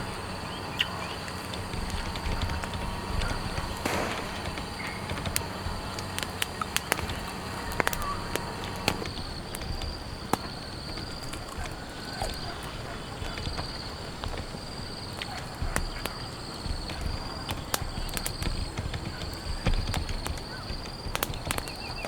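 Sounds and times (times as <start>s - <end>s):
steady background hiss: 0.0s - 19.8s
drops tapping on a tent: 0.0s - 22.0s.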